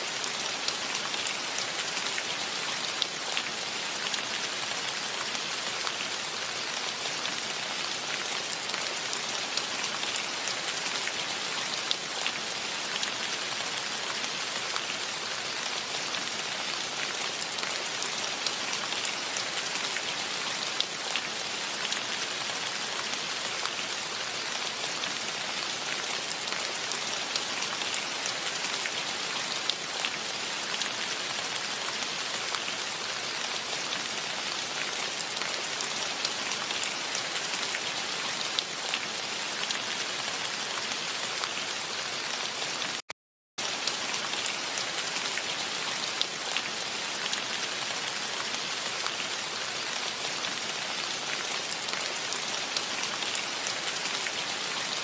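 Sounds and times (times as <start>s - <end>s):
rain falling: 0.0s - 43.0s, 43.6s - 55.0s.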